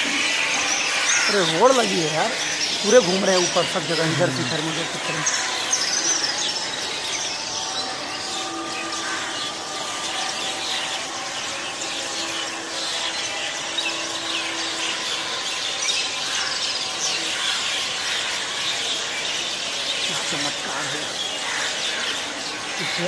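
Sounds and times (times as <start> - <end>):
flock of birds calling: 0.0 - 23.0.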